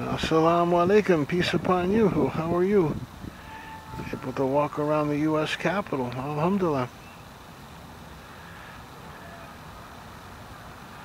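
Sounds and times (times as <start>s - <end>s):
city background rumble: 0.0s - 11.0s.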